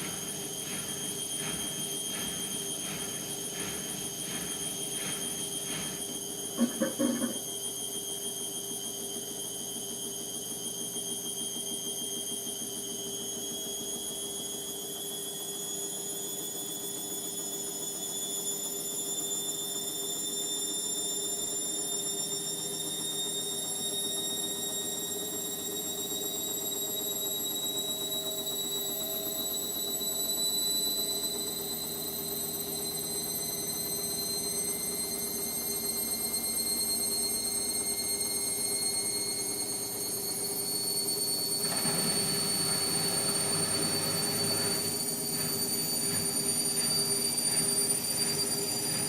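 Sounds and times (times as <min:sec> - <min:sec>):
washing machine motor whining: 0:00.0 - 0:49.0.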